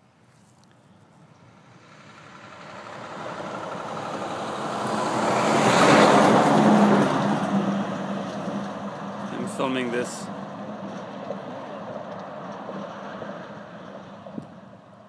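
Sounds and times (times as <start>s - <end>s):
vehicle passing close by: 1.2s - 14.8s.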